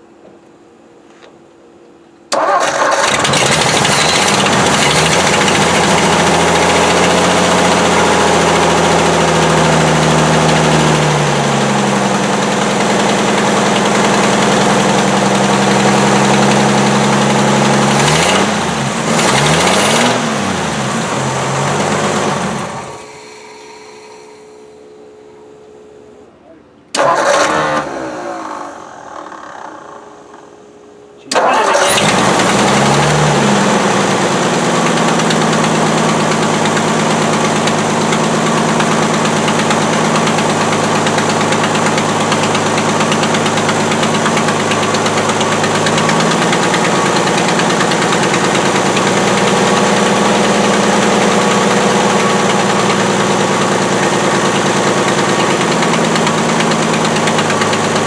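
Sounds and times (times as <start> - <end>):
car engine running: 2.7 - 25.6, 26.9 - 58.0.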